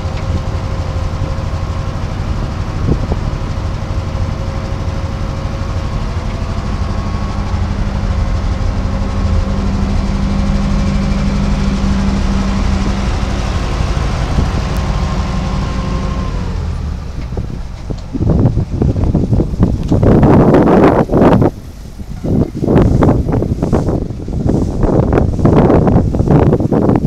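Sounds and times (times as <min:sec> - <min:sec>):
thin steady whine: 0:00.0 - 0:27.0
truck engine idling: 0:00.0 - 0:27.0.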